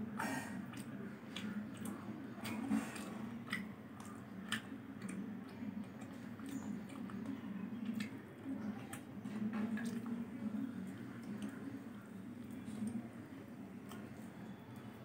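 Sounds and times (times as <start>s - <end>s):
low steady hum: 0.0s - 15.0s
man chewing food: 0.0s - 15.0s.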